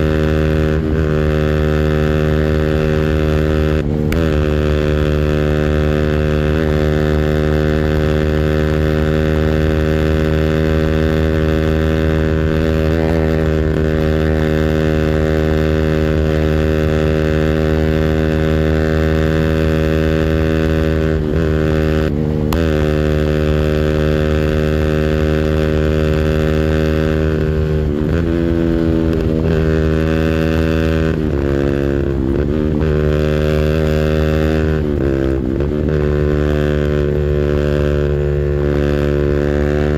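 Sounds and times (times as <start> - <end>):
engine on rev limiter: 0.0 - 39.9.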